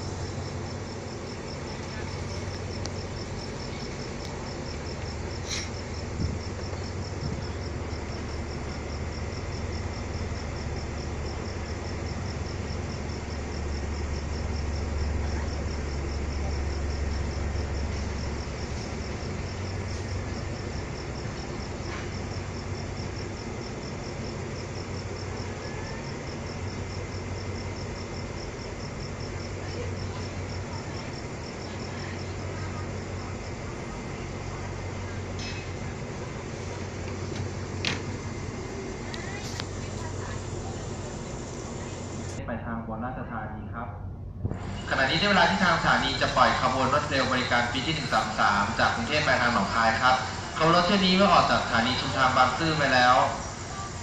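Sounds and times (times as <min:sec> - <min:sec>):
insect chirping: 0:00.0 - 0:42.4, 0:44.4 - 0:54.0
idling train engine rumble: 0:00.0 - 0:54.0.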